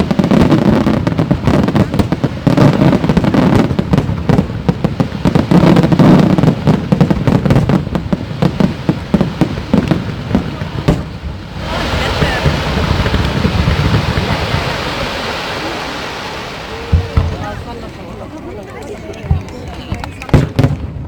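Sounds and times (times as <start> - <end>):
fireworks rumbling booms: 0.0 - 17.9, 19.2 - 21.0
fireworks bangs and crackles: 0.0 - 21.0.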